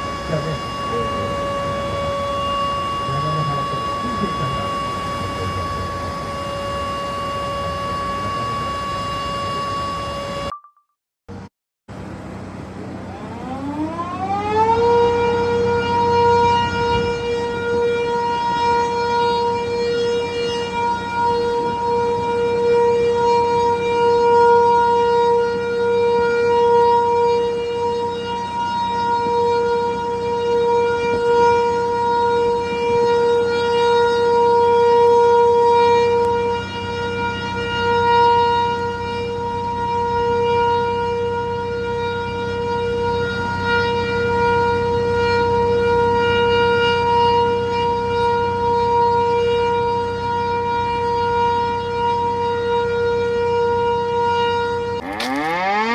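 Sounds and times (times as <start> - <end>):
warning siren steady tone: 0.0 - 55.9.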